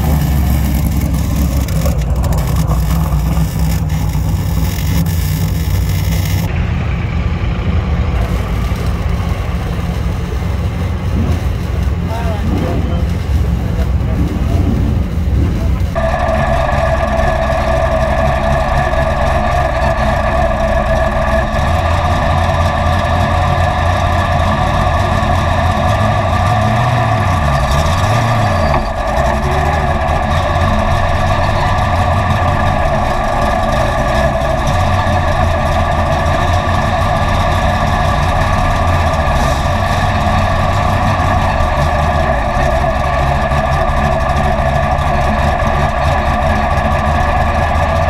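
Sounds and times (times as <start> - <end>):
stock car engines running: 0.0 - 48.0.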